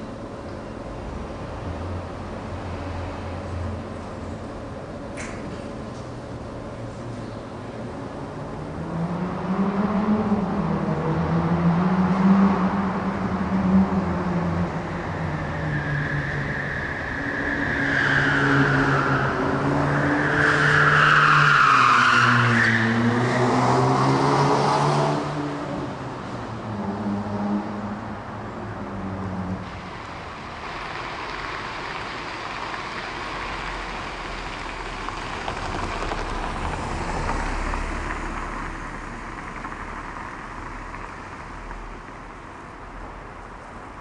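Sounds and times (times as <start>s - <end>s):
cars passing: 0.0s - 44.0s.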